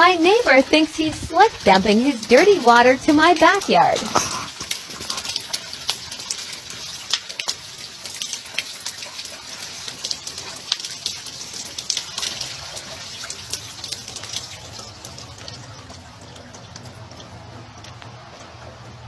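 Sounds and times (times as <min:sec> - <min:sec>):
waste water splashing from drain pipe: 0:00.0 - 0:19.0.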